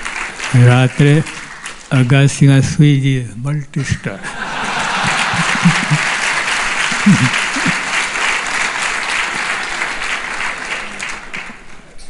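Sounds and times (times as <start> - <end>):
audience applauding: 0.0 - 2.3, 4.3 - 12.0.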